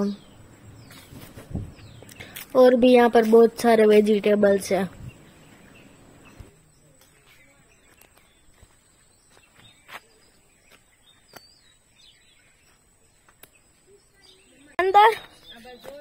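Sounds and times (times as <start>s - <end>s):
bird chirp: 0.0s - 3.1s, 3.9s - 16.0s.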